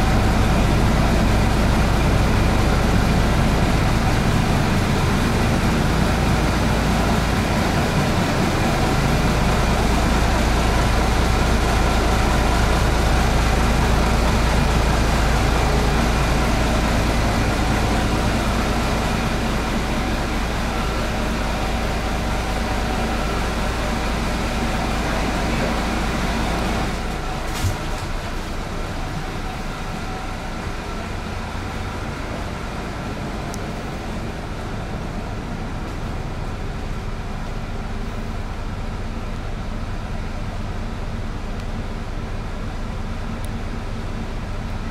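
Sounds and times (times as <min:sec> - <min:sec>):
vehicle engine low rumble: 0:00.0 - 0:44.9.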